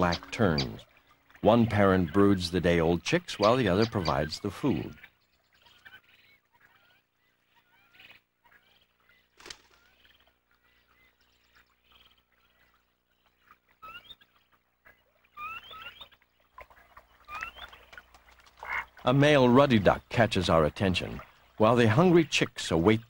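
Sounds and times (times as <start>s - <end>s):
terns chirping: 0.0s - 23.0s.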